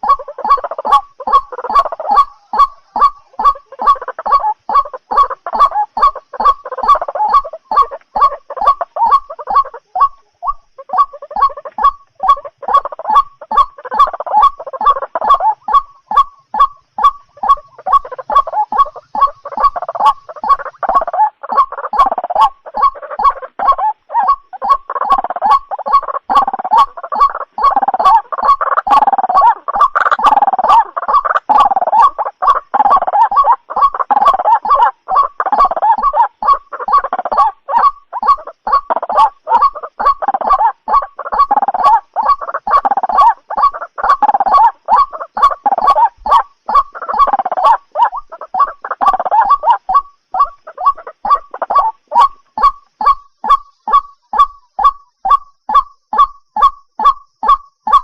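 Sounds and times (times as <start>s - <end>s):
bird harsh repeated calls: 0.0s - 58.0s
chorus of croaking calls: 0.0s - 58.0s.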